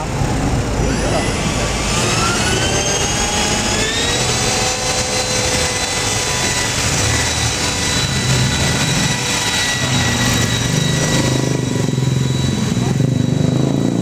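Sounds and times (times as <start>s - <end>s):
rc helicopter motor whine: 0.0s - 14.0s
rotor blades whirring: 0.0s - 14.0s.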